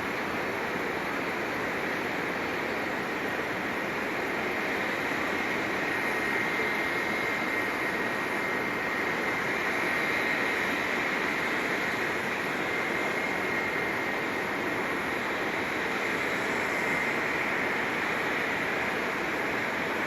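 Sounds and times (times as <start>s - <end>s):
jet aircraft noise: 0.0s - 20.0s.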